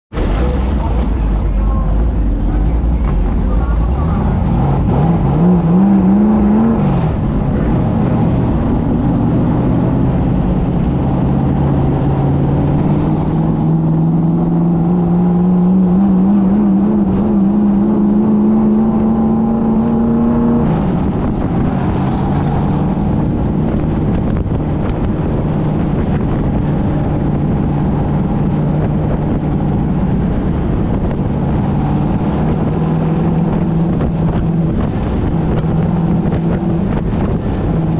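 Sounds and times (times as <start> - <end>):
race car engine revving: 0.1 - 37.9.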